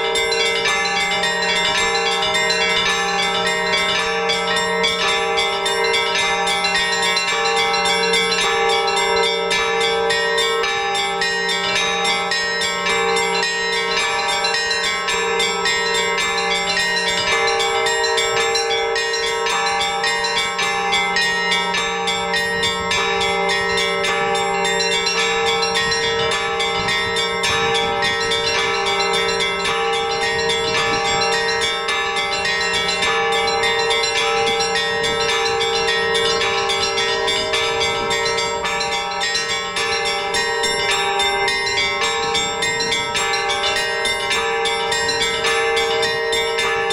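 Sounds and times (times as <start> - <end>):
deep bell: 0.0 - 46.9
small high church bells: 0.0 - 46.9.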